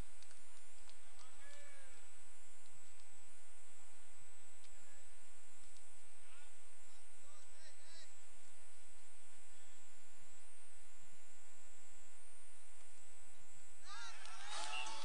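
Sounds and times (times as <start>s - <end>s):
electrical hum and buzz: 0.0s - 15.0s.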